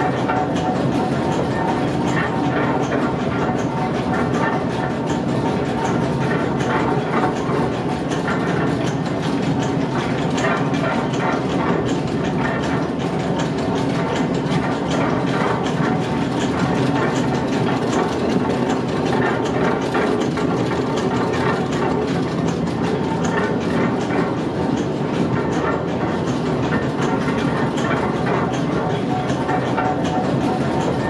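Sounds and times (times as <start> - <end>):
grist mill machinery clattering: 0.0 - 31.0.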